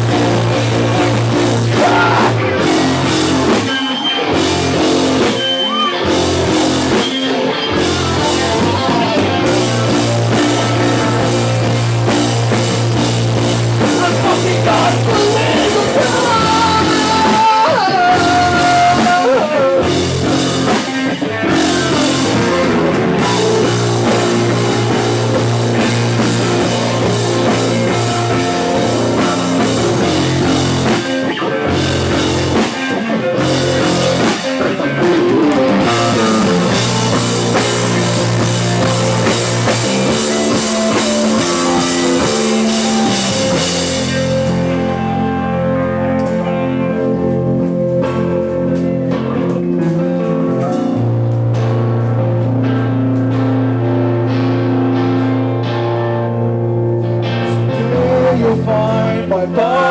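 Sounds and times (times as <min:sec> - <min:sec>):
drum kit: 0:00.0 - 0:56.5
bass guitar: 0:00.0 - 0:59.9
electric guitars: 0:00.0 - 0:59.9.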